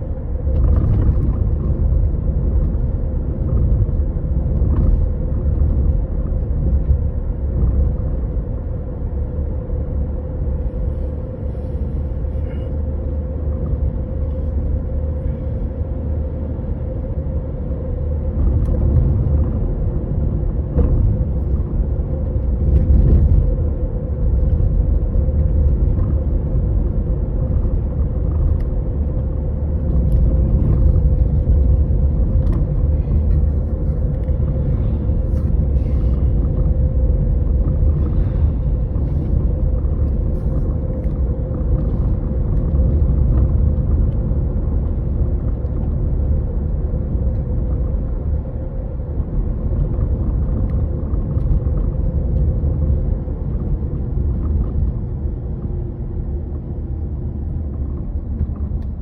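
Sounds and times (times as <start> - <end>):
car road rumble: 0.0 - 59.0.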